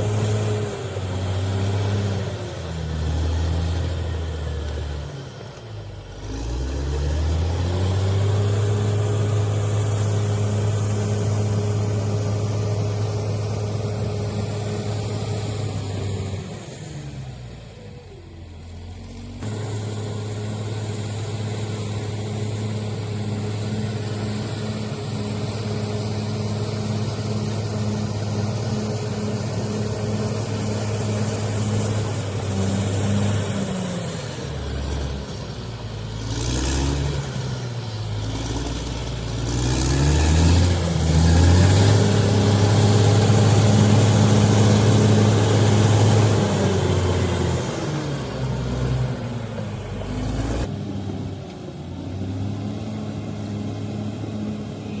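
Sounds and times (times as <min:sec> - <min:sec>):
heavy diesel engine revving: 0:00.0 - 0:17.8, 0:18.8 - 0:55.0.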